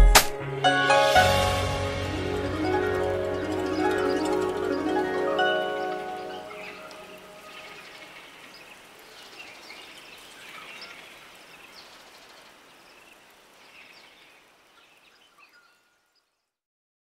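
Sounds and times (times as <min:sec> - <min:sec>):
soft outdoor hiss: 0:01.2 - 0:16.6
small birds chirping: 0:02.1 - 0:16.6.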